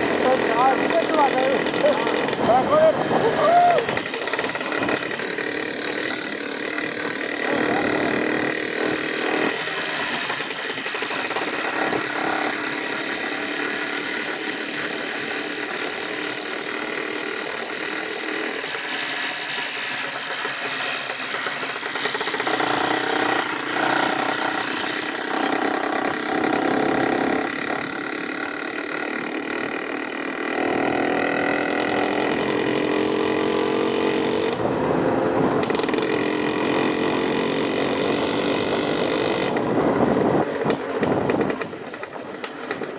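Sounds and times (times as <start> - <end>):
engine running: 0.0 - 42.9.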